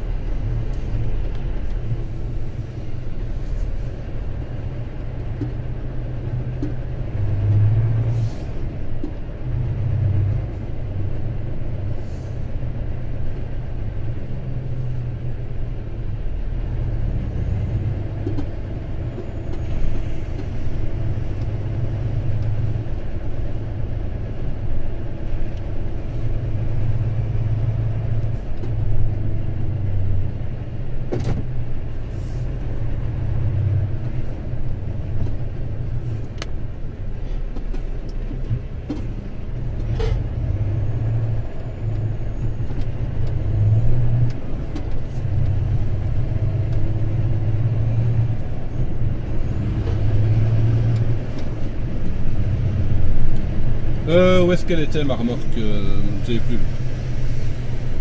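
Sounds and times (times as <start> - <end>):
truck diesel engine rumbling: 0.0 - 58.0.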